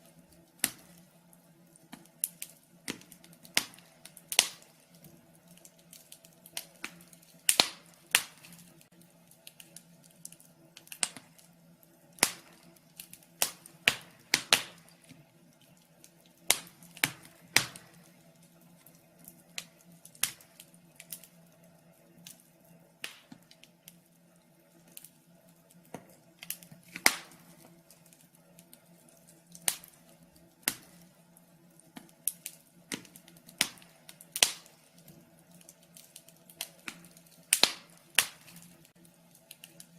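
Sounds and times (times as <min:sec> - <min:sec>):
faint steady hum: 0:00.0 - 0:39.9
fire crackling and popping: 0:00.0 - 0:39.9.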